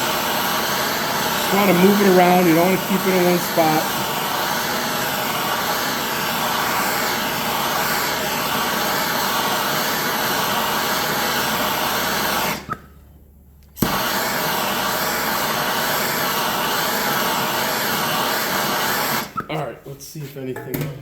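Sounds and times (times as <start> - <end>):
torch flame hissing: 0.0 - 12.8, 13.8 - 19.4.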